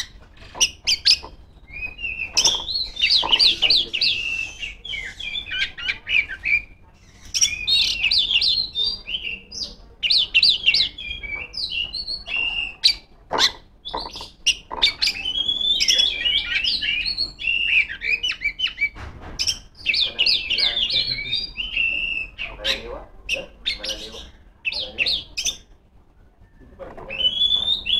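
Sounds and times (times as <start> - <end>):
bird singing whistled phrases: 0.0 - 19.0, 19.8 - 22.8, 26.5 - 27.9.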